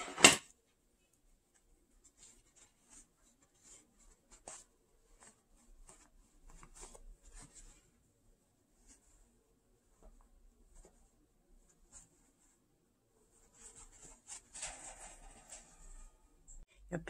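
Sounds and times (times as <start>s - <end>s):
stuffing rustling and scratching: 1.4s - 16.6s.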